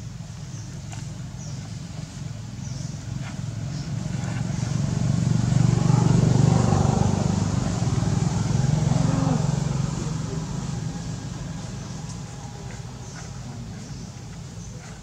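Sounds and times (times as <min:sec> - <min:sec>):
vehicle engine passing: 0:02.0 - 0:15.0.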